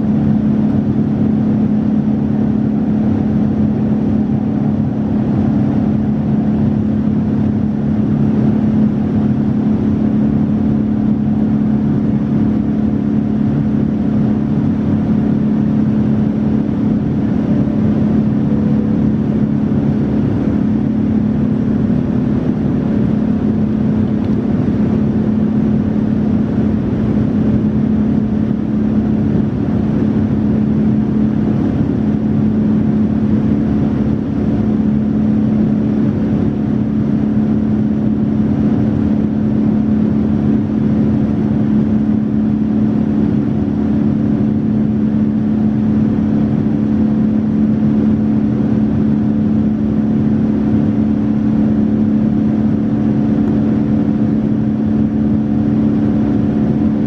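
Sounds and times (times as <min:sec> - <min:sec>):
cabin airflow rush: 0:00.0 - 0:57.0
jet engine drone: 0:00.0 - 0:57.0.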